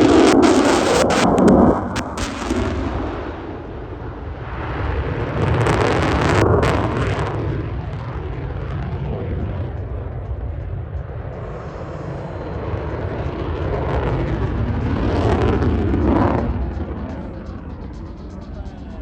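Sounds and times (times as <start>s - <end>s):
jet engine rumbling: 0.0s - 19.0s.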